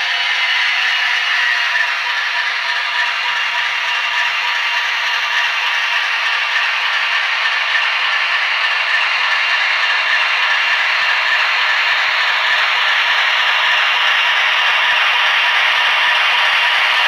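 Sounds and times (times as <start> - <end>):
model train wheels clattering: 0.0 - 17.0.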